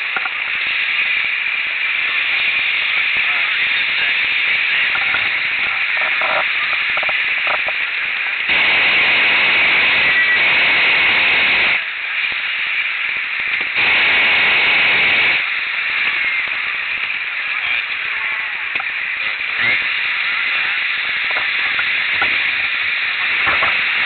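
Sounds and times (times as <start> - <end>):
constant low hiss: 0.0 - 24.0
propane burner hissing: 0.0 - 24.0.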